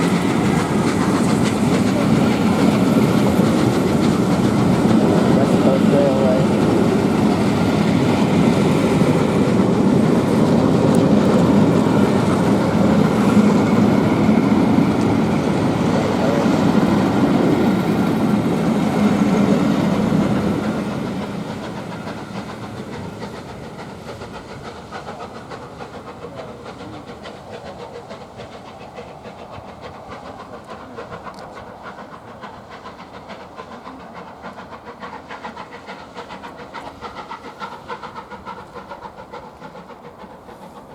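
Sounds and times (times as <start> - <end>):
steam train wheels rumbling and clicking: 0.0 - 40.9.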